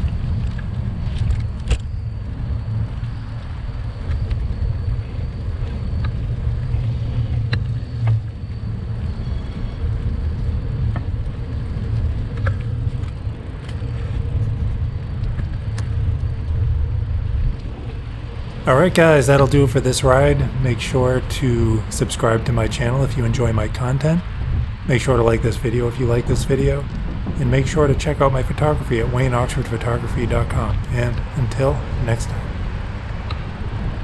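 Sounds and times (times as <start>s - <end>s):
road noise: 0.0s - 34.0s
wind rumble: 0.0s - 34.0s.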